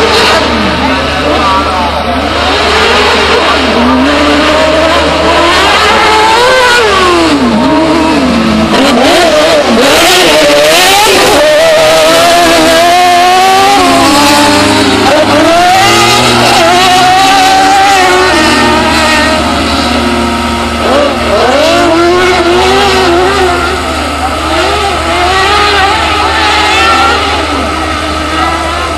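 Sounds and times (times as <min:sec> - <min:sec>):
race car engines revving: 0:00.0 - 0:28.9.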